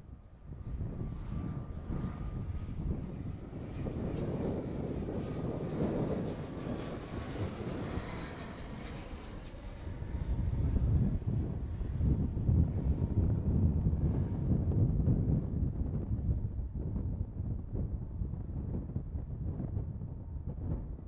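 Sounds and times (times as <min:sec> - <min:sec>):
propeller plane droning overhead: 0:00.0 - 0:21.0.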